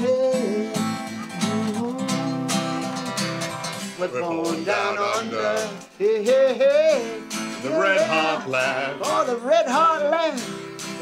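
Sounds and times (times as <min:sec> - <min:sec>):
acoustic guitar strumming: 0:00.0 - 0:11.0
man singing: 0:00.0 - 0:11.0.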